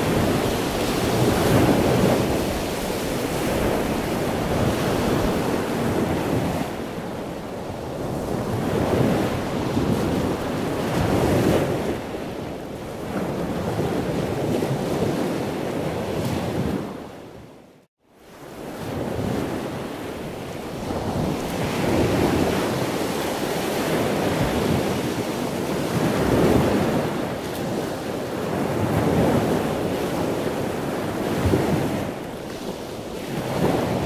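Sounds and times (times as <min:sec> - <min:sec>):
ocean waves washing: 0:00.0 - 0:17.6, 0:18.2 - 0:34.0.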